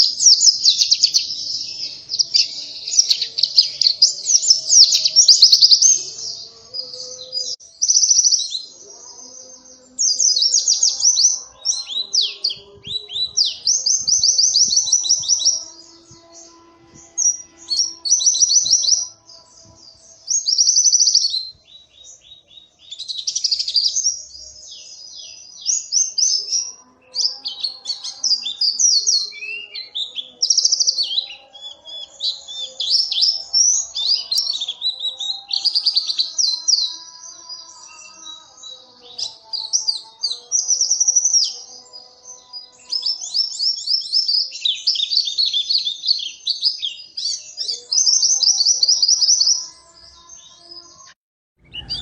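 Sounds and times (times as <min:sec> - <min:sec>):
bird singing high twittering trills: 0:00.0 - 0:52.0.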